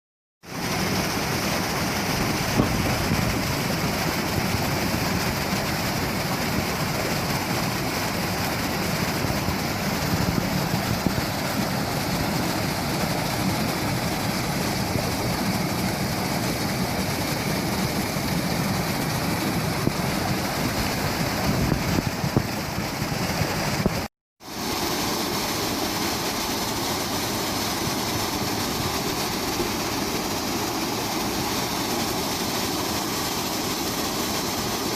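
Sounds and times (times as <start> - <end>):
waterfall rushing: 0.5 - 34.9.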